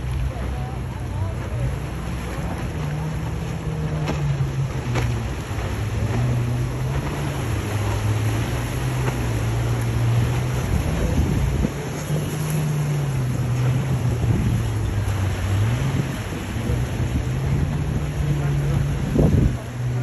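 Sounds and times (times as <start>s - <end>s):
motorboat engines droning: 0.0s - 20.0s
wake water washing: 0.0s - 20.0s
wind buffeting microphone: 0.0s - 20.0s.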